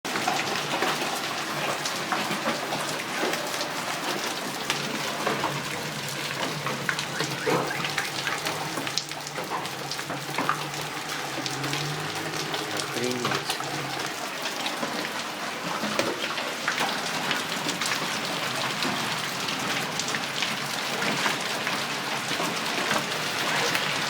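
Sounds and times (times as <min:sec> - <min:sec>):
hail striking surfaces: 0:00.1 - 0:24.0.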